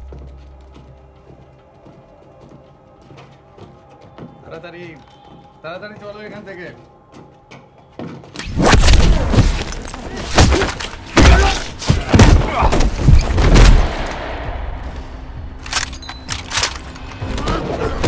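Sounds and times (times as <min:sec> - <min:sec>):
film score music: 0:00.0 - 0:18.0.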